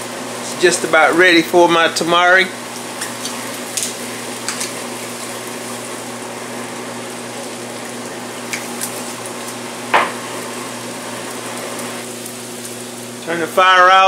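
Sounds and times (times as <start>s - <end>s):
milk bubbling in a pan: 2.6s - 13.9s.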